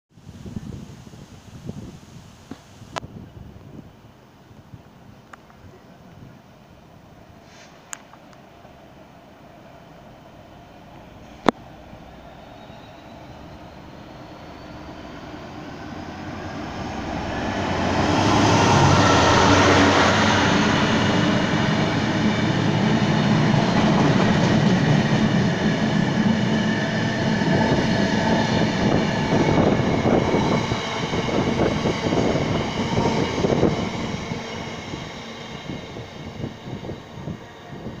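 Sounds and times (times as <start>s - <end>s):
diesel locomotive engine: 3.0s - 38.0s.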